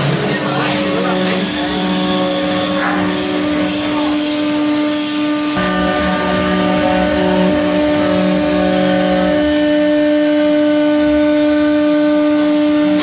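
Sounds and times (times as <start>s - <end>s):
machine tones: 0.0s - 13.0s
router spindle whine: 0.0s - 13.0s.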